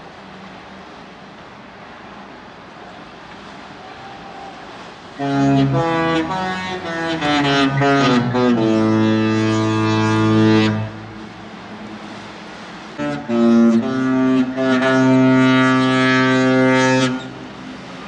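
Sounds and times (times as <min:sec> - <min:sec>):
steady background hiss: 0:00.0 - 0:18.0
ship horn playing a tune: 0:03.0 - 0:18.0.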